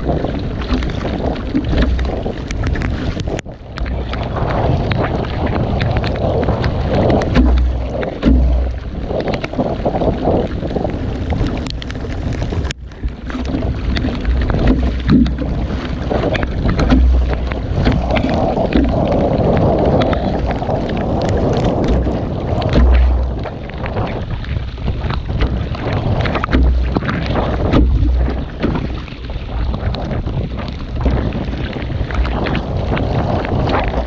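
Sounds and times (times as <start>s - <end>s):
waves splashing against canoe: 0.0s - 34.0s
wind buffeting microphone: 0.0s - 34.0s.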